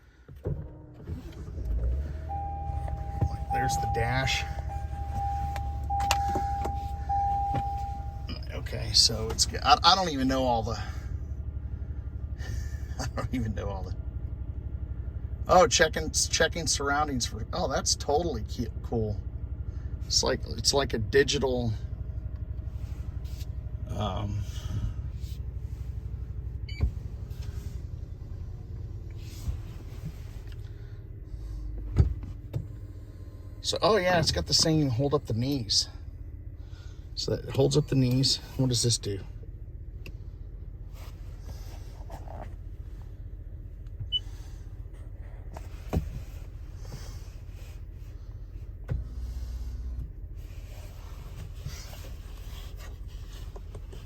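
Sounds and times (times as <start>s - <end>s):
low rumble inside truck cab: 0.0s - 54.0s.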